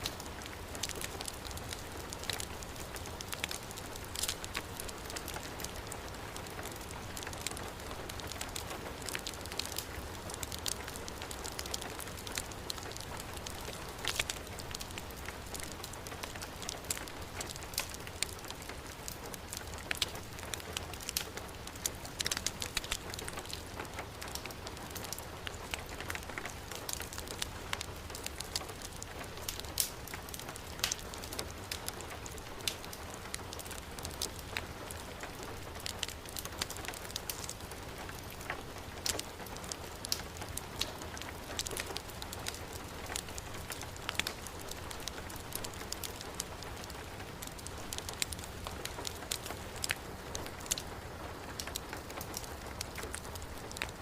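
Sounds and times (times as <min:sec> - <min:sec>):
heavy rain: 0:00.0 - 0:54.0
wood fire crackling: 0:00.0 - 0:54.0.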